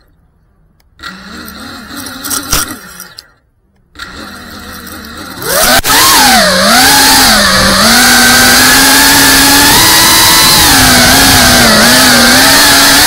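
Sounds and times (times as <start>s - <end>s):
drone propellers whining: 1.0s - 13.0s.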